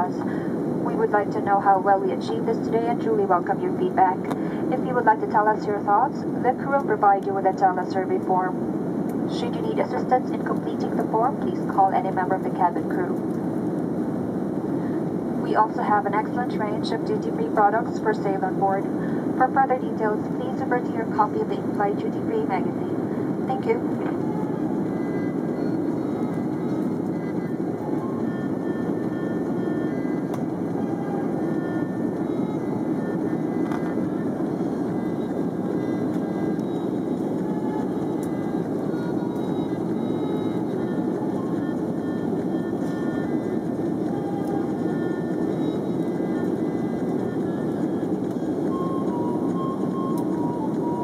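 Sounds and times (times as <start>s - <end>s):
airplane cabin engine rumble: 0.0s - 51.0s
faint high hum: 0.0s - 51.0s.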